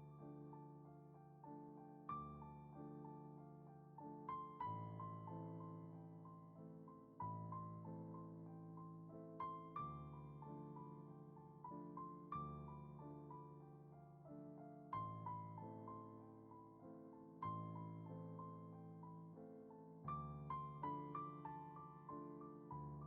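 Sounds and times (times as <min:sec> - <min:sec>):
soft piano music: 0:00.0 - 0:23.0.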